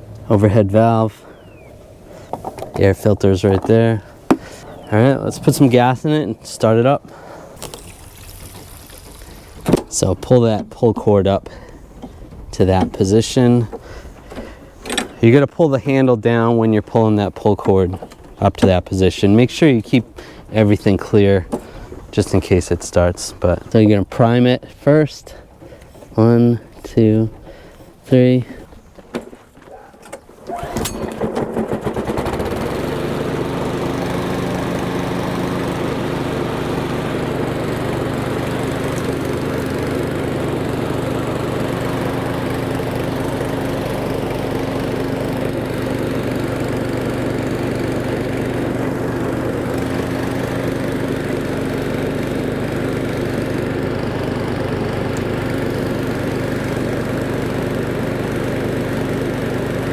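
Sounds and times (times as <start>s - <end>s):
lawn mower engine pull-started: 0.0s - 59.9s.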